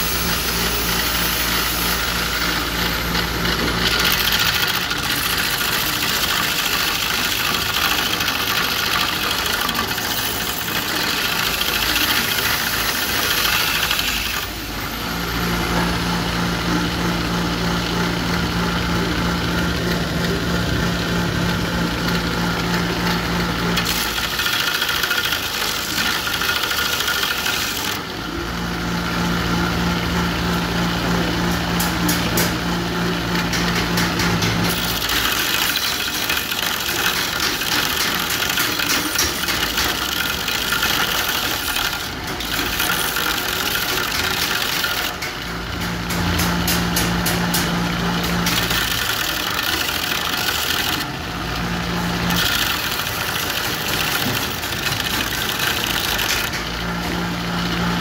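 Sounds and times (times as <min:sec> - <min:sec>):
grinder motor humming: 0:00.0 - 0:58.0.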